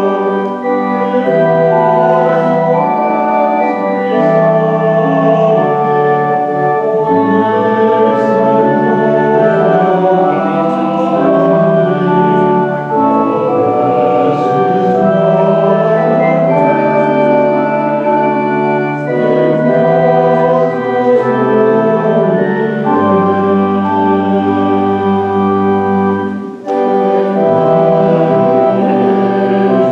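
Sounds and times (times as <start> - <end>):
church organ playing chords: 0.0 - 29.9.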